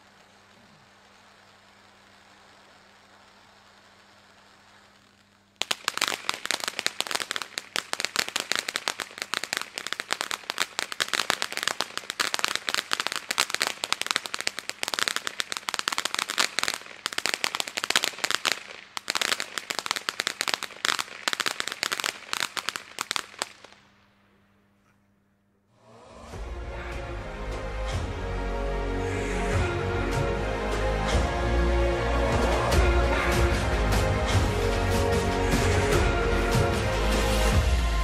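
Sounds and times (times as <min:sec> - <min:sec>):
firework fountain hissing: 0:00.0 - 0:23.9, 0:26.3 - 0:38.0
firework crackling: 0:00.0 - 0:24.4, 0:25.9 - 0:38.0.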